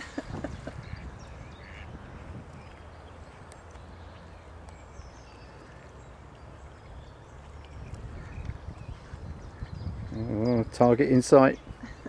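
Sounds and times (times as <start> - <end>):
wind rumble on microphone: 0.0 - 5.7, 6.3 - 12.0
faint distant bird calls: 0.0 - 12.0.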